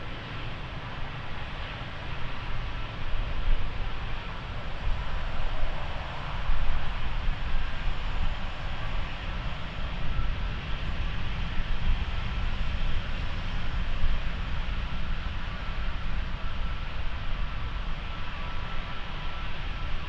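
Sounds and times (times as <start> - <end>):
faint engine whine: 0.0 - 20.0
jet engines rumbling: 0.0 - 20.0.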